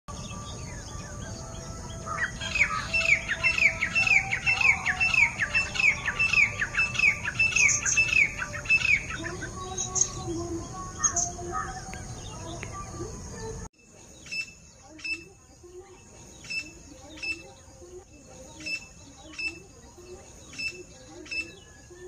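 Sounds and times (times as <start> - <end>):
faint birds calling: 0.1 - 22.0
francolin calling: 0.1 - 22.0.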